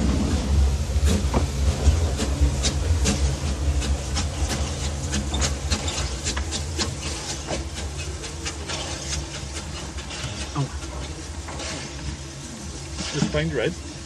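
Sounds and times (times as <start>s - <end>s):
hissing steam: 0.0s - 14.0s
low rumble: 0.0s - 14.0s
steam locomotive exhaust chuffs: 0.0s - 14.0s.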